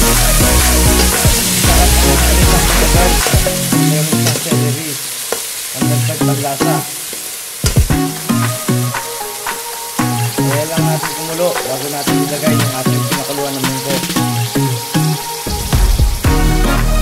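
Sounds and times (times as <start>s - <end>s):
vegetables sizzling in hot oil: 0.0s - 16.3s
background music: 0.0s - 17.0s.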